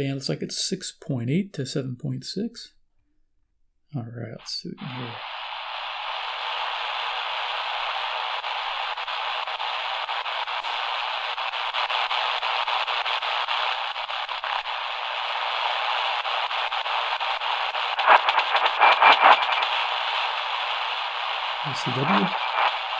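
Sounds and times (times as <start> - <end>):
radio static hissing and crackling: 4.2 - 22.9.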